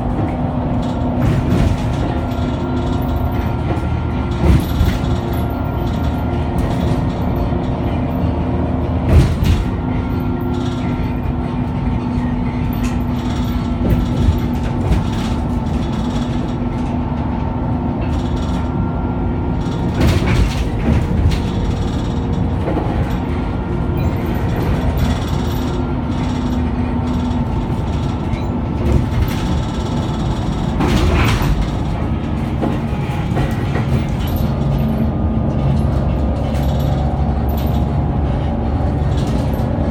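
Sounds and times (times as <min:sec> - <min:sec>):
sharp knocks and rattles: 0:00.0 - 0:11.7, 0:12.5 - 0:39.9
bus engine drone: 0:00.0 - 0:39.9.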